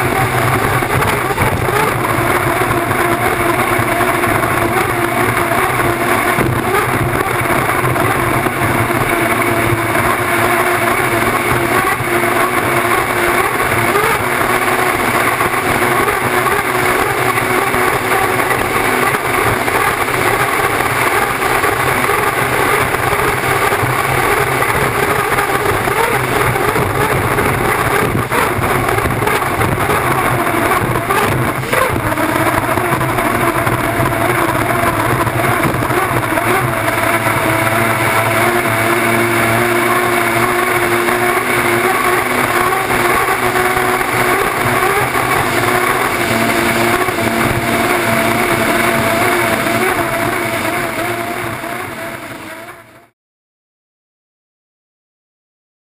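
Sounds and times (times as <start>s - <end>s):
water spray from hull: 0.0s - 52.7s
turbine engine running steadily: 0.0s - 53.1s.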